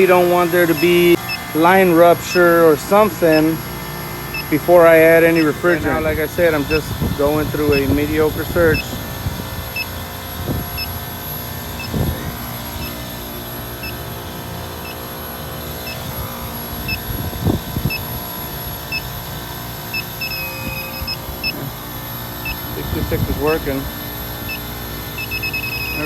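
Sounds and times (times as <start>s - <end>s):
leak detector beeping: 0.0s - 26.0s
refrigeration machinery hum: 0.0s - 26.0s.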